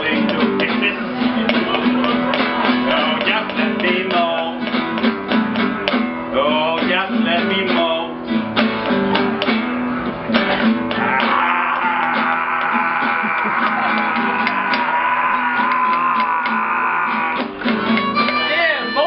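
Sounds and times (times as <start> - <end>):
acoustic guitar strumming blues: 0.0 - 19.0
bending guitar melody: 0.0 - 19.0.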